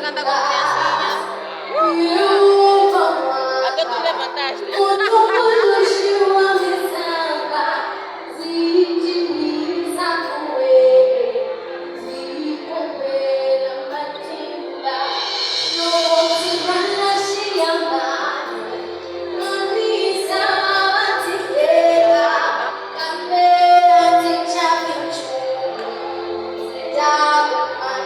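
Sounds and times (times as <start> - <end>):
children singing: 0.0 - 28.0
musical accompaniment with bass: 0.0 - 28.0
woman singing: 0.0 - 28.0.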